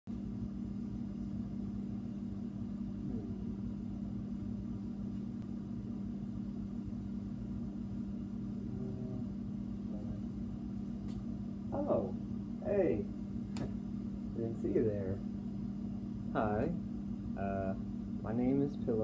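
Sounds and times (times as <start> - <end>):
low machine hum: 0.1 - 19.0.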